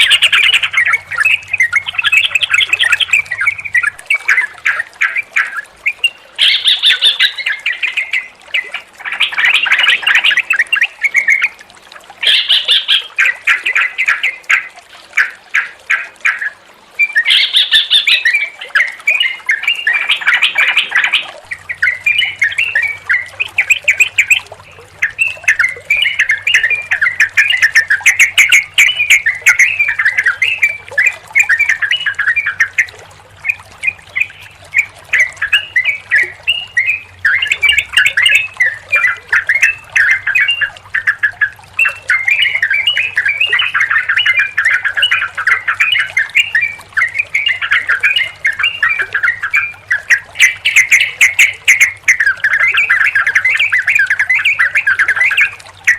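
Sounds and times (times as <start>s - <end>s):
birds chattering song: 0.0s - 11.6s, 12.2s - 55.9s.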